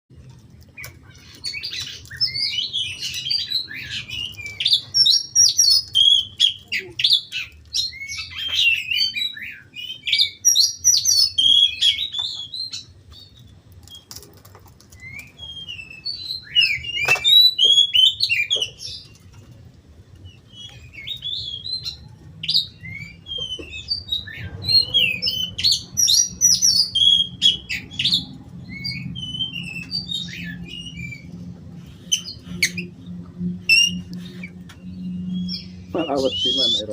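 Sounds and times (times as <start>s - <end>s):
songbird chirps and trills: 0.1s - 36.9s.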